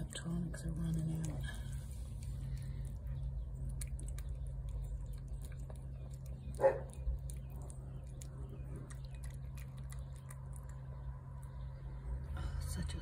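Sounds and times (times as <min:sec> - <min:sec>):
cat chewing wet food: 0:00.0 - 0:12.0
steady low hum: 0:00.0 - 0:13.0.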